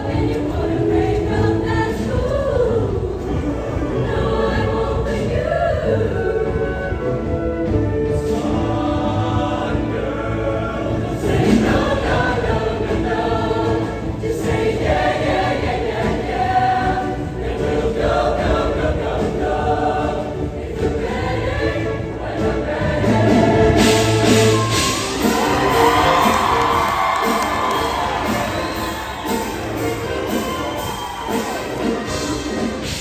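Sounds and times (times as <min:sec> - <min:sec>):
choir singing in harmony: 0:00.0 - 0:33.0
instrumental accompaniment with bass: 0:00.0 - 0:33.0.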